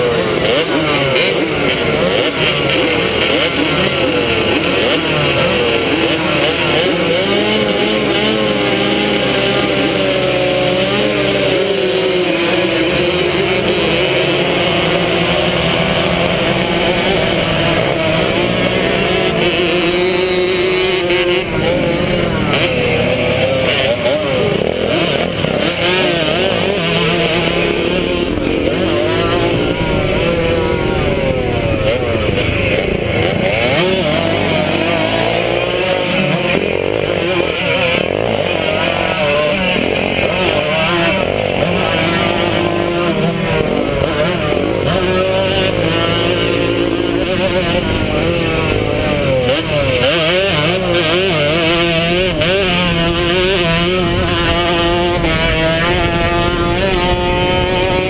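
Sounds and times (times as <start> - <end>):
two-stroke motorbike engine revving: 0.0 - 58.0.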